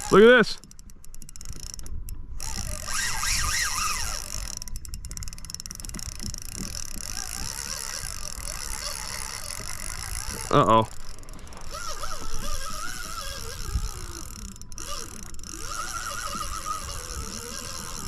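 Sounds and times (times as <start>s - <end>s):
fishing reel clicking: 0.0s - 18.0s
wavering whine: 0.0s - 18.0s.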